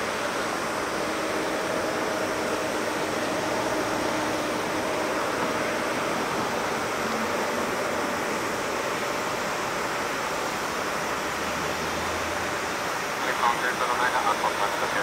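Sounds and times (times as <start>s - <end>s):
distant jet engines at takeoff: 0.0s - 15.0s.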